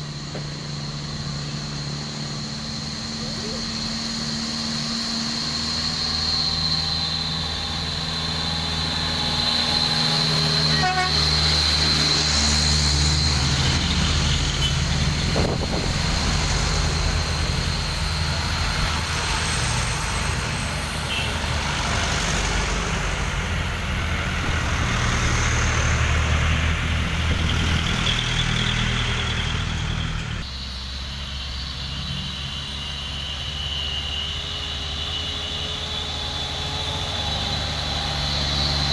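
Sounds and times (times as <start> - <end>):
heavy trucks passing: 0.0 - 38.9.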